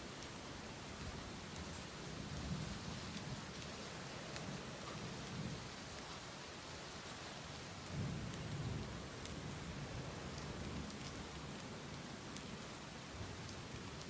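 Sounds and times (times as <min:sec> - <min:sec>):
steady rainfall: 0:00.0 - 0:14.0.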